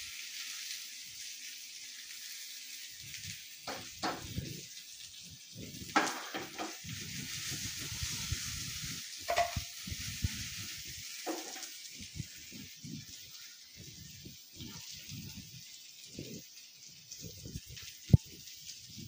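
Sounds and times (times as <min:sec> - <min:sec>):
hot oil sizzling in a pan: 0:00.0 - 0:19.0.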